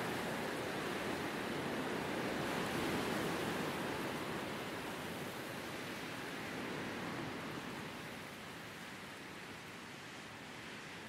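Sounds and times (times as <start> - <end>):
wind blowing through grass: 0.0 - 11.0.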